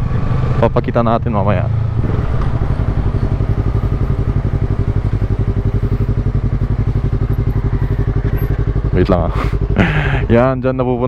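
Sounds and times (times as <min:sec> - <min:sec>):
motorcycle engine running: 0:01.6 - 0:11.0.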